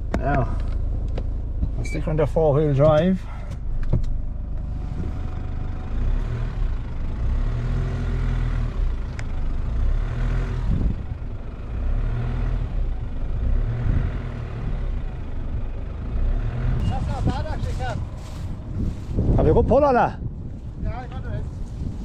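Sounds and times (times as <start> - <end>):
car engine running under load: 0.0 - 22.0.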